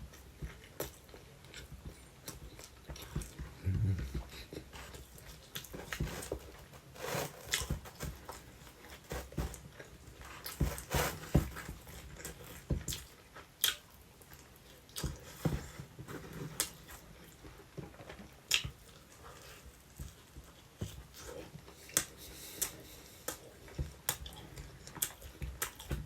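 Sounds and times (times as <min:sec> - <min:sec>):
chewing and biting pizza: 0:00.0 - 0:26.0.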